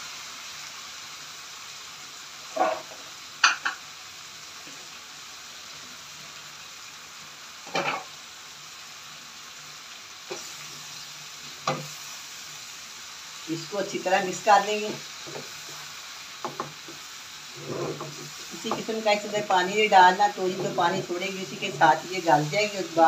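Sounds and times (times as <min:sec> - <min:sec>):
oil sizzling in a wok: 0:00.0 - 0:23.0.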